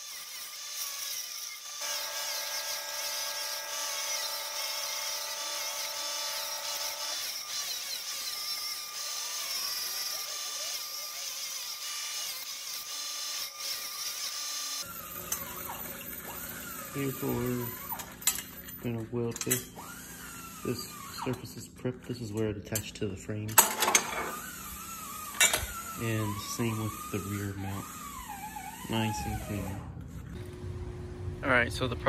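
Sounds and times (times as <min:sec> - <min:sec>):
bench grinder motor whine: 0:00.0 - 0:18.7, 0:19.8 - 0:21.4, 0:24.1 - 0:31.4.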